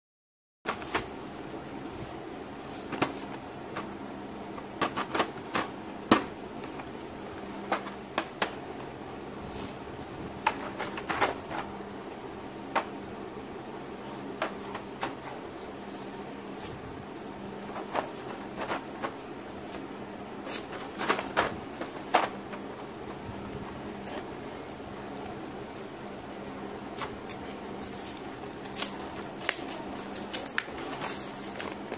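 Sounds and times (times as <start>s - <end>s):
background hum: 0.7s - 31.9s.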